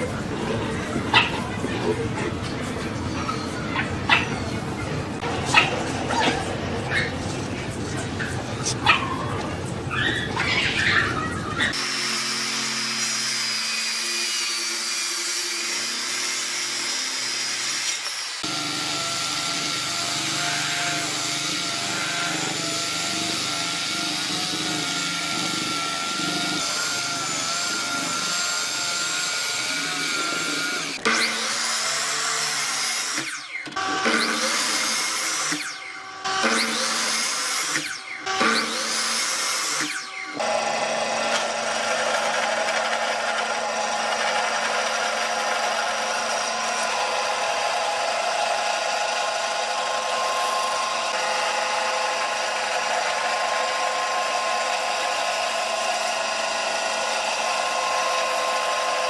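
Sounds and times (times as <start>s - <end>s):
power tool motor whine: 11.7s - 59.0s.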